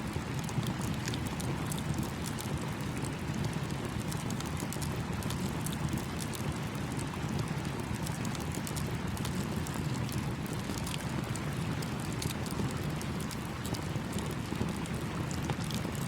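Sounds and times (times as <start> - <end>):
campfire crackling: 0.2 - 16.0.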